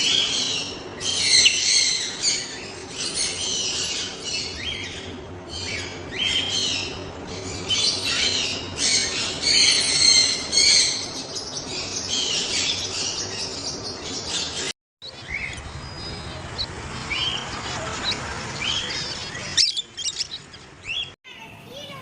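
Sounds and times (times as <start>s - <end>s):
pet birds chirping: 0.0s - 22.0s.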